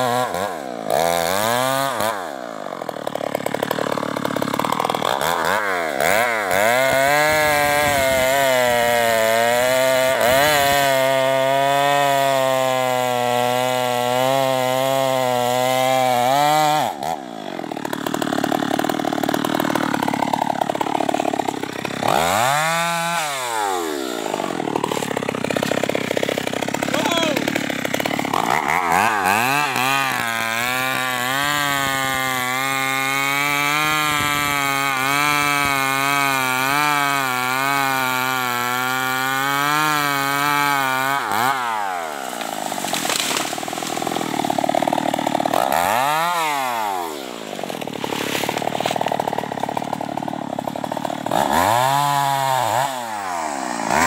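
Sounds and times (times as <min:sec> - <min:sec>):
chainsaw cutting and revving: 0:00.0 - 0:54.0.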